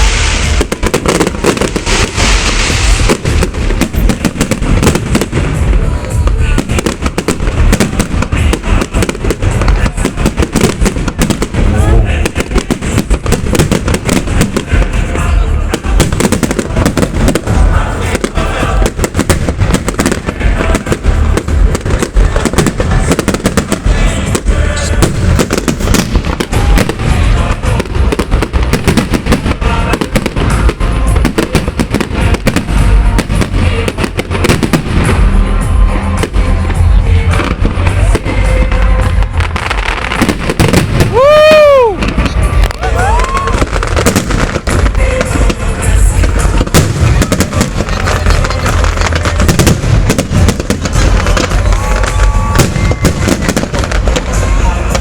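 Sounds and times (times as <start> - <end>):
deep fireworks booms: 0.0 - 55.0
fireworks bangs and crackles: 0.0 - 55.0.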